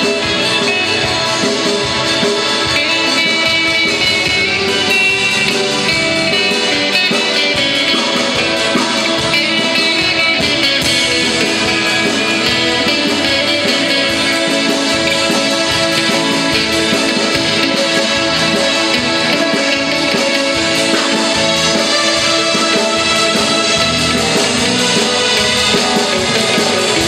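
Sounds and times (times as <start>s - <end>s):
guitar music: 0.0s - 27.0s.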